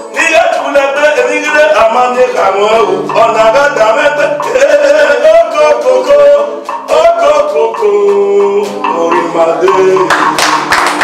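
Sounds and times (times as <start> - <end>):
man singing into a microphone: 0.0 - 10.6
sharp rhythmic strokes: 0.0 - 11.0.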